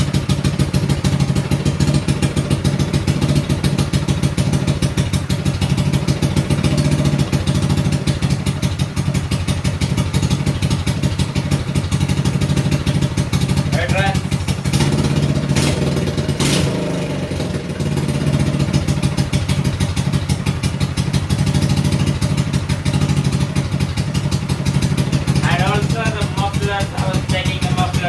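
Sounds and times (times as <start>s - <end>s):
mini bike engine open exhaust: 0.0s - 28.0s.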